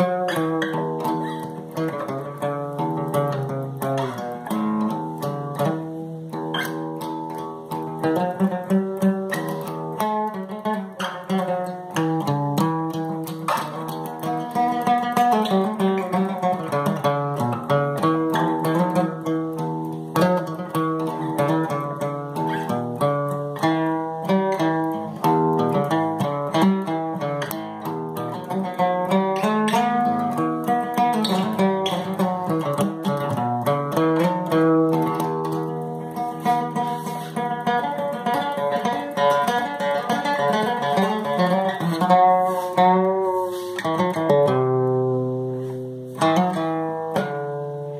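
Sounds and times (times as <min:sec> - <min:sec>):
guitar picking: 0:00.0 - 0:47.9.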